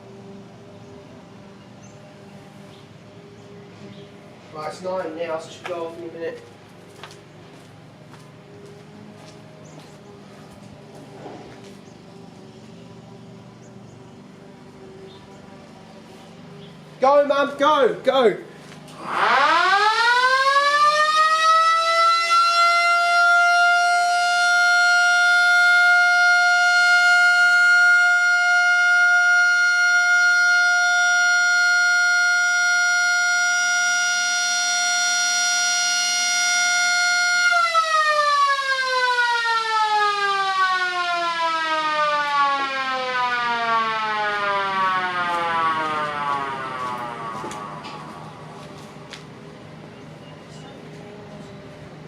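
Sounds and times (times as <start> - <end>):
air raid siren: 0.0 - 16.6, 18.7 - 49.9.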